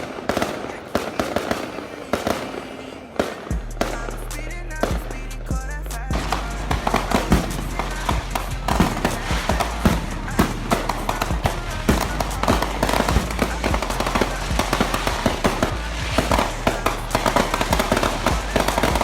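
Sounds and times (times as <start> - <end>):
fireworks crackling: 0.0 - 19.0
music with steady bass: 3.5 - 19.0.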